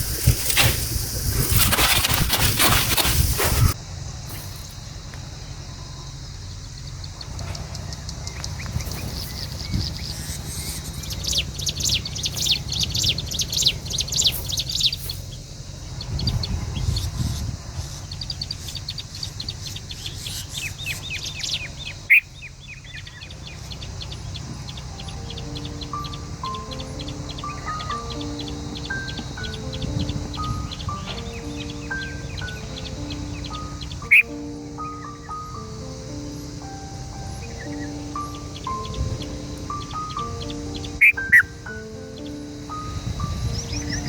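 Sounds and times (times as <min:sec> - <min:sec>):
birds chirping: 0:00.0 - 0:44.0
steady low rumble: 0:00.0 - 0:44.0.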